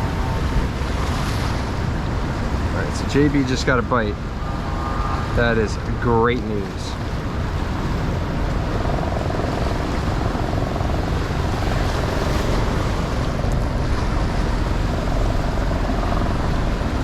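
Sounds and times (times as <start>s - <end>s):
faint motor drone: 0.0s - 17.0s
river water: 0.0s - 17.0s
wind buffeting microphone: 0.0s - 17.0s.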